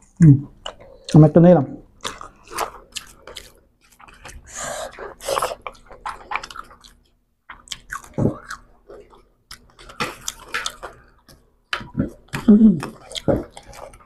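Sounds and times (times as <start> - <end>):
people chewing food: 0.0 - 14.0.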